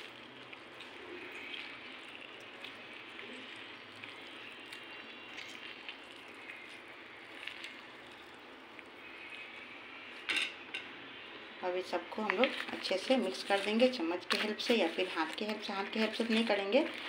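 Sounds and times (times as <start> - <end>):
lemon squeezing squelches: 0.0 - 10.2, 11.0 - 17.0
juice dripping: 0.0 - 17.0.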